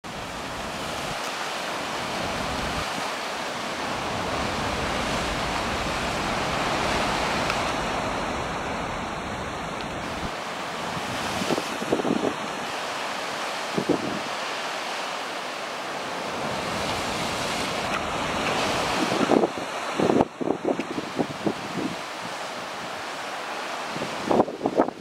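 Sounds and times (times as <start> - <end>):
storm waves breaking: 0.0 - 25.0.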